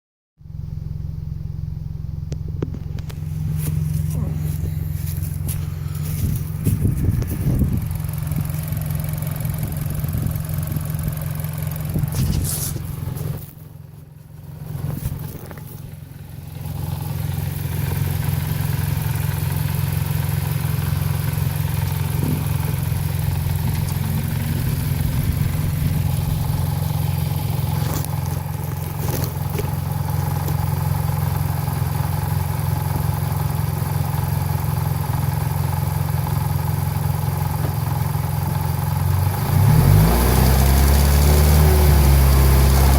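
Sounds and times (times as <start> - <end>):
car engine droning: 0.4 - 42.9.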